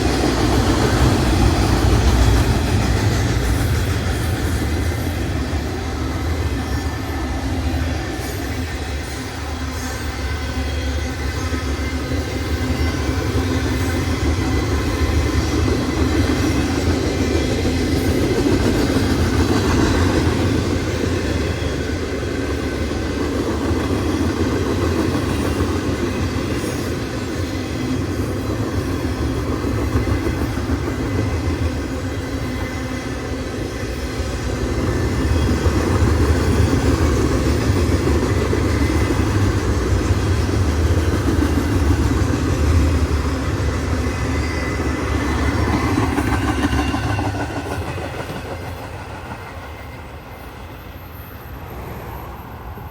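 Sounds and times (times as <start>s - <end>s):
freight train rumble: 0.0s - 52.9s.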